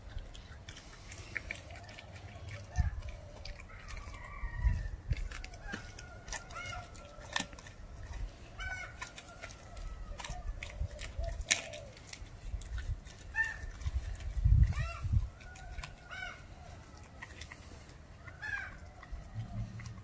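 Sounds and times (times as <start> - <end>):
puppy chewing bone: 0.0 - 20.0.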